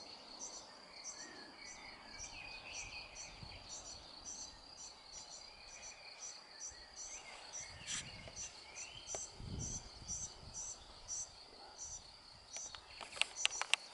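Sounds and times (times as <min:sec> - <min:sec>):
insect chirping: 0:00.0 - 0:13.9.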